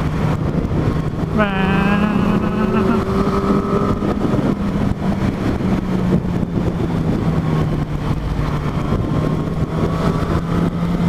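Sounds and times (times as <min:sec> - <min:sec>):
motorcycle engine at low revs: 0:00.0 - 0:11.0
wind buffeting microphone: 0:00.0 - 0:11.0.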